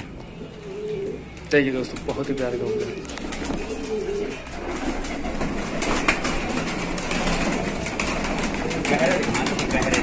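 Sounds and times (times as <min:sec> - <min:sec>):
pigeons cooing: 0:00.0 - 0:10.0
birds clicking and rustling: 0:00.3 - 0:10.0.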